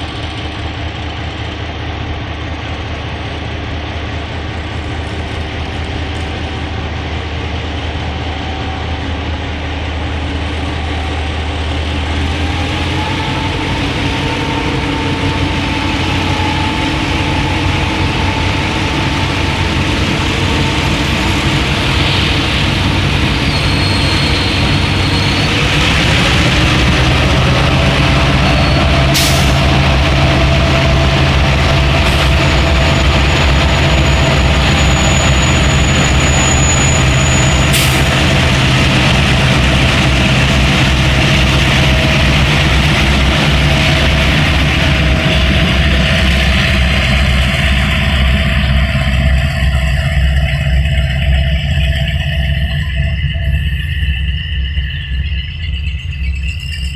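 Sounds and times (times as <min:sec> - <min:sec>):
locomotive diesel engine running: 0:00.0 - 0:56.9.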